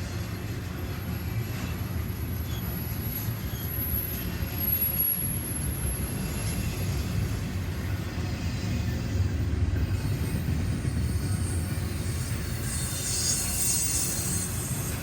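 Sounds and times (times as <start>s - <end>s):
train rumbling along the track: 0.0s - 15.0s.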